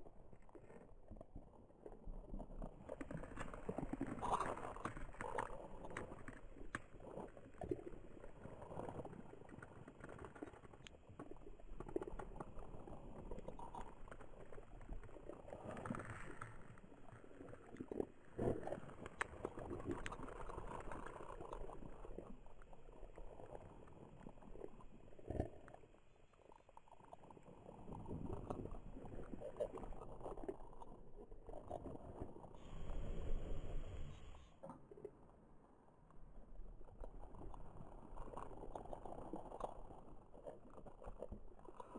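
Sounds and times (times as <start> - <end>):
underwater crackling and gurgling: 0.0 - 35.5, 36.3 - 41.9.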